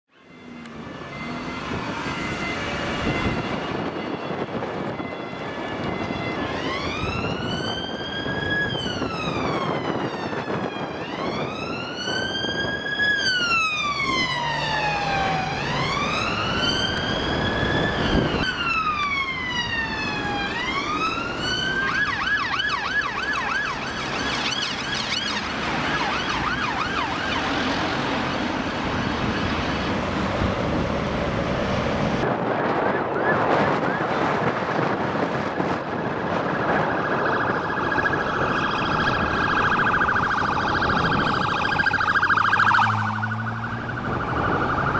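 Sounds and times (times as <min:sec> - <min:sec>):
passing traffic: 0:00.1 - 0:44.9
police siren wailing and yelping: 0:00.2 - 0:29.7, 0:32.5 - 0:44.9.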